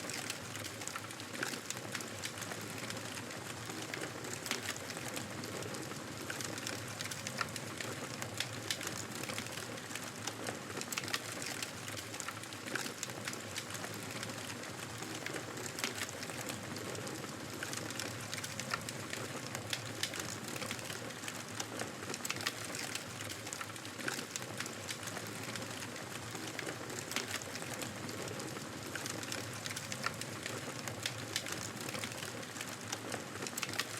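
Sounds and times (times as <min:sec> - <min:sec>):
wood crackling and popping: 0:00.0 - 0:33.9.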